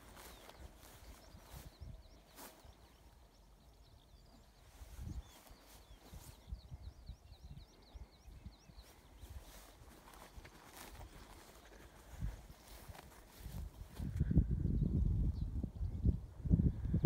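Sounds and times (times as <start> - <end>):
small bird singing: 0.0 - 17.0.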